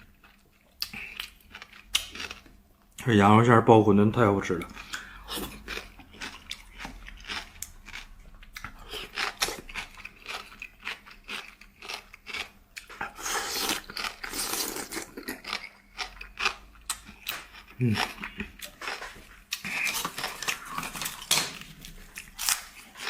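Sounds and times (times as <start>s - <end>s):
person chewing with wet smacks: 0.0s - 2.6s, 4.5s - 23.0s.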